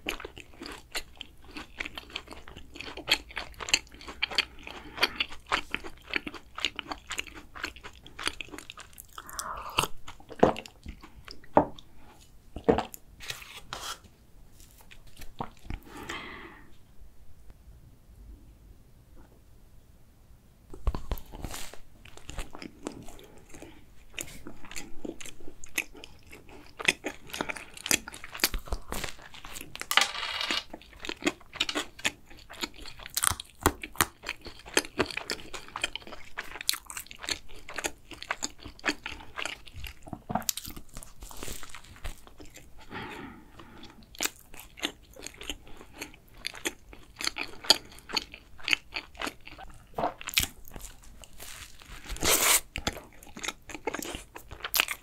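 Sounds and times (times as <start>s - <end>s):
crunchy chewing of pastry: 0.0s - 16.4s, 20.7s - 29.9s, 30.6s - 55.0s.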